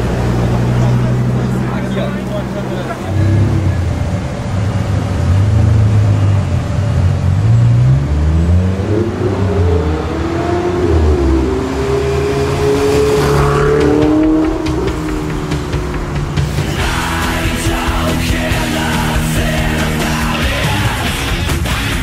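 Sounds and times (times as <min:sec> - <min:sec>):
sports car engine revving: 0:00.0 - 0:22.0.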